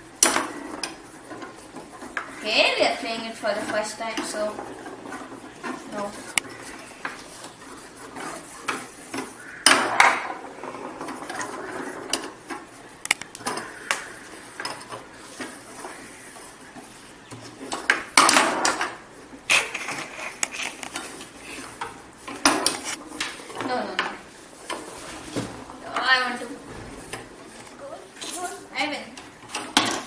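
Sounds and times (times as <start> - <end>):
foosball ball and players clacking: 0.0 - 30.0.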